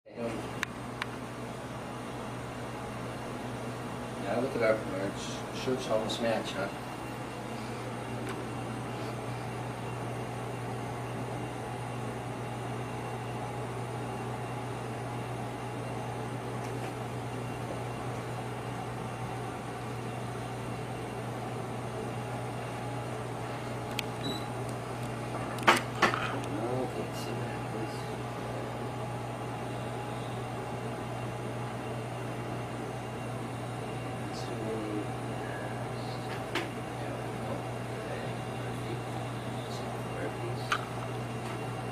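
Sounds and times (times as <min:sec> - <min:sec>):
low machine hum: 0:00.1 - 0:41.9.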